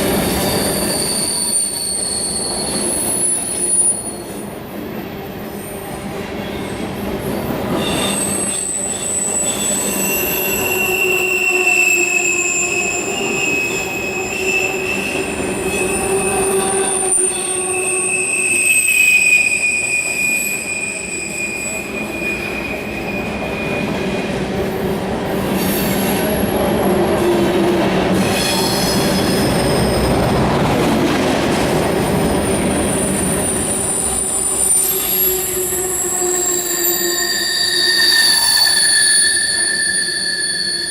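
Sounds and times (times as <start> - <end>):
train wheels squealing on rails: 0.0 - 31.2, 31.9 - 40.9
rail cars rumbling: 0.0 - 40.9.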